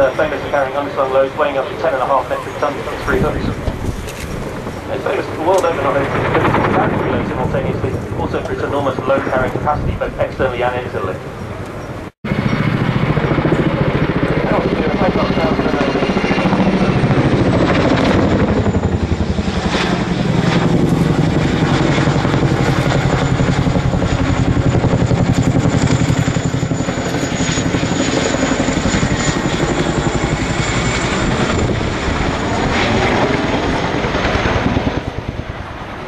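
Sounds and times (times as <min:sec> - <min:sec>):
helicopter rotors chopping: 0:00.0 - 0:36.0
high turbine whine: 0:00.0 - 0:36.0.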